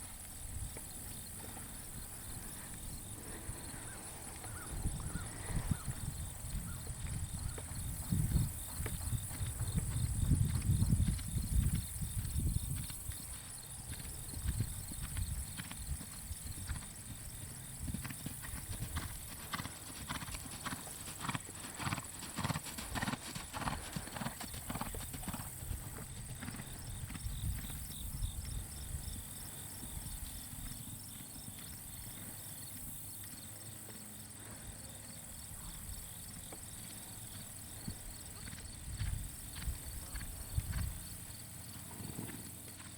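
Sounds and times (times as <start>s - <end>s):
horse hooves striking ground: 0.0s - 42.9s.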